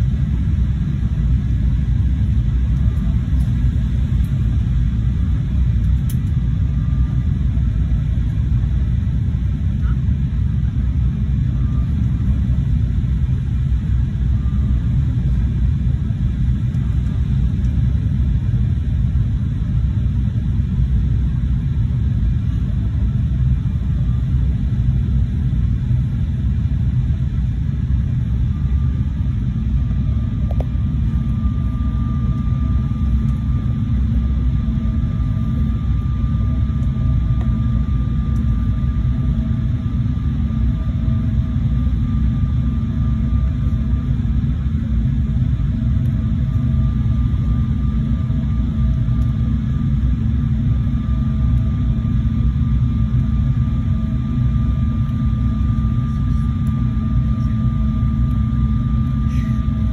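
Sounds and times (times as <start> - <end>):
faint high whine: 0.0 - 59.9
jet airliner cabin rumble: 0.0 - 59.9.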